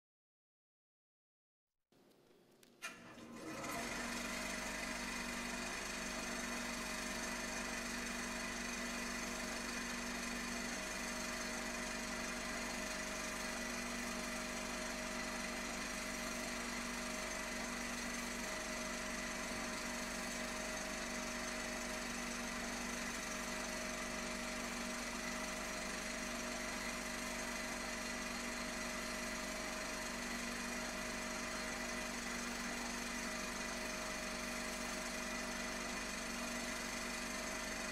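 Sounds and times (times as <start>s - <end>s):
film projector whirring and rattling: 2.8s - 37.9s.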